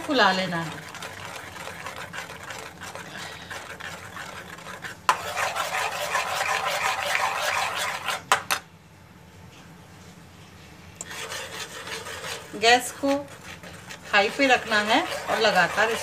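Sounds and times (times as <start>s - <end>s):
spoon scraping steel pan: 0.0s - 8.4s, 11.0s - 16.0s.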